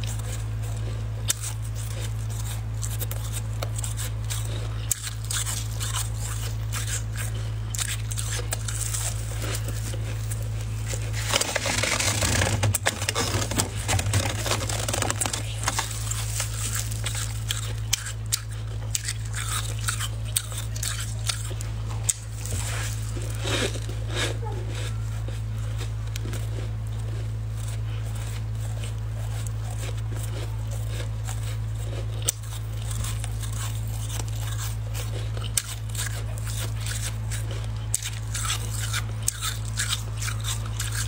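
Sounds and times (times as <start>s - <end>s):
frost crunching in a metal pot: 0.0s - 41.0s
steady low hum: 0.0s - 41.0s.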